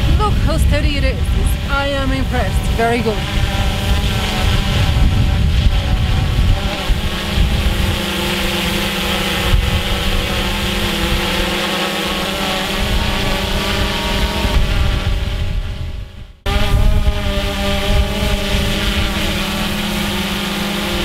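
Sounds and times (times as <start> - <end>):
drone propellers whining: 0.0 - 21.0
wind buffeting microphone: 0.0 - 21.0.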